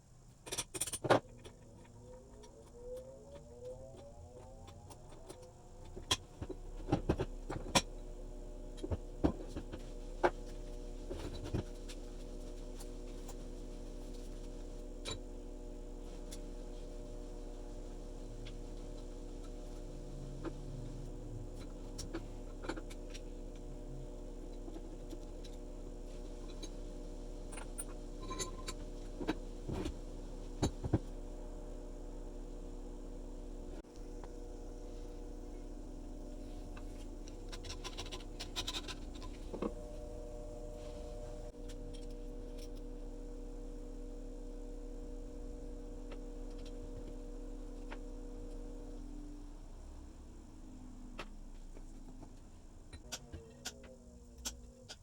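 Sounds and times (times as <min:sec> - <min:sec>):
electric motor spinning: 0:01.9 - 0:50.1.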